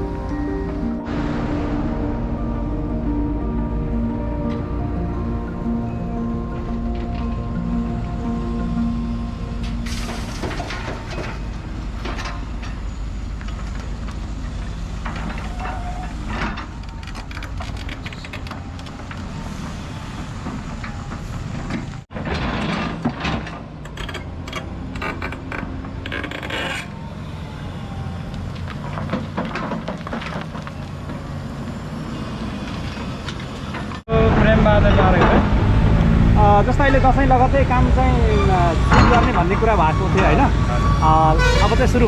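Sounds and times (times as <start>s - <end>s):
excavator engine rumbling: 0.0s - 42.0s.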